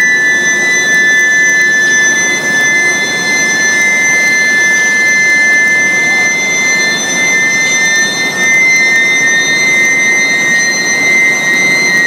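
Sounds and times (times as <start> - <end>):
constant machine noise: 0.0 - 12.0
high-pitched induction coil whine: 0.0 - 12.0.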